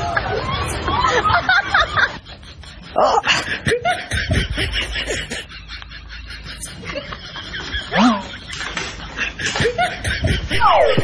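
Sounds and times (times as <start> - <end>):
snickering laughter: 0.0 - 11.0.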